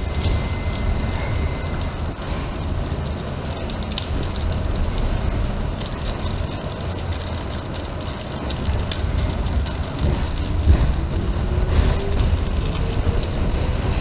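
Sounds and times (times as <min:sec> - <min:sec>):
subway train wheels on rails: 0:00.0 - 0:14.0
train clicks and rattles: 0:00.0 - 0:14.0.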